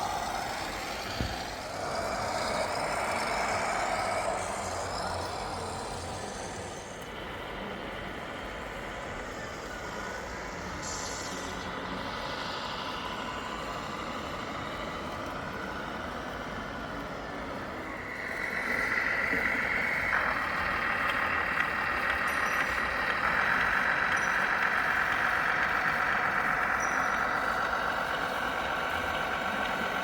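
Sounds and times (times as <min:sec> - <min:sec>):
high-pitched whine: 0:00.0 - 0:30.0.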